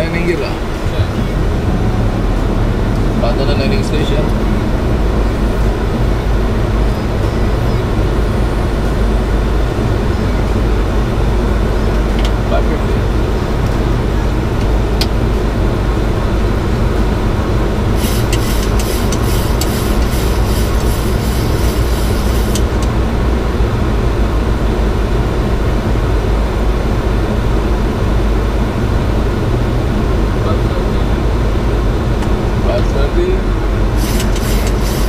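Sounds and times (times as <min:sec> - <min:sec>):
air rushing past cockpit: 0:00.0 - 0:25.8, 0:29.9 - 0:35.0
jet engines running: 0:00.0 - 0:35.0.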